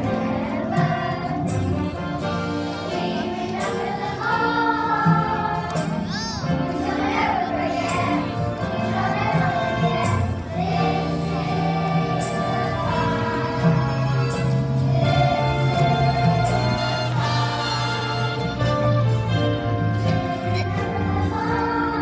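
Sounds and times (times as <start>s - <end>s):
choir singing: 0.0s - 22.0s
instrumental accompaniment: 0.0s - 22.0s.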